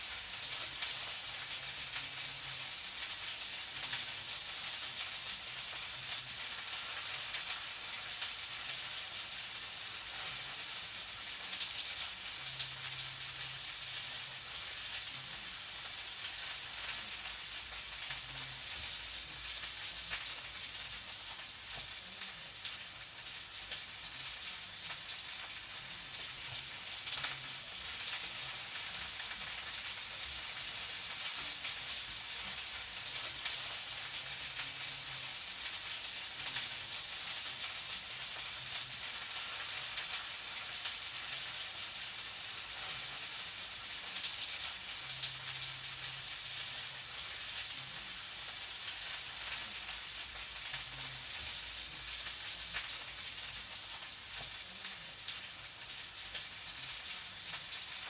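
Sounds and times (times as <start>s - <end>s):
food frying in a pan: 0.0s - 58.0s.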